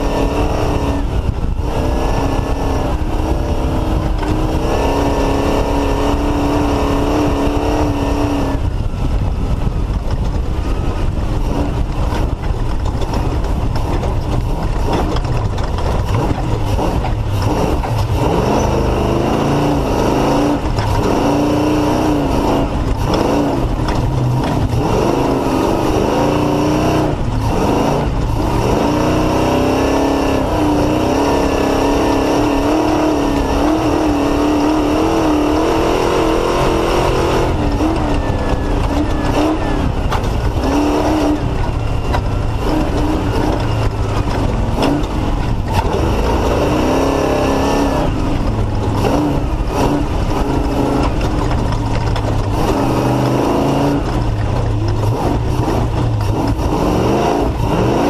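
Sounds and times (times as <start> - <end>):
race engine running hard: 0.0 - 58.0.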